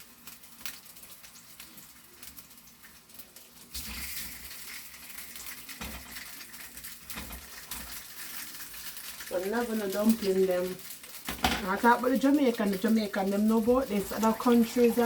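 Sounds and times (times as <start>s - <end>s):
dumplings sizzling in oil: 0.0s - 15.0s.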